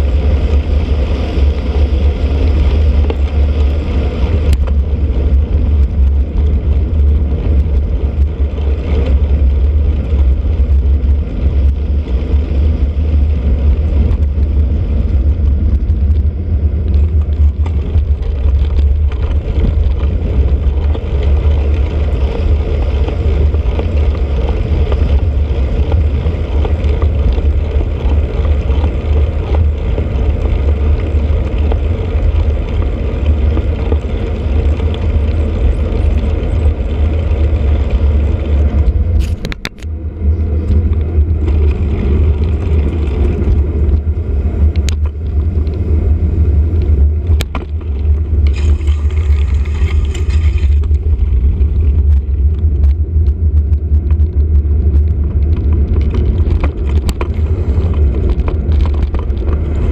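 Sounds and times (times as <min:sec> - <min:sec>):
bicycle road noise: 0:00.0 - 0:59.9
wind buffeting microphone: 0:00.0 - 0:59.9.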